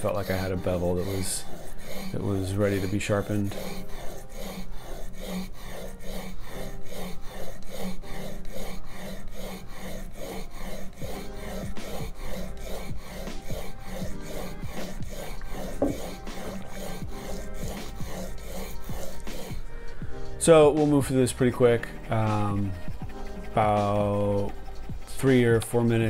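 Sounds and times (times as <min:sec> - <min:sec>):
faint background music: 0:00.0 - 0:26.0
metal blade rasping on sandpaper: 0:00.0 - 0:26.0.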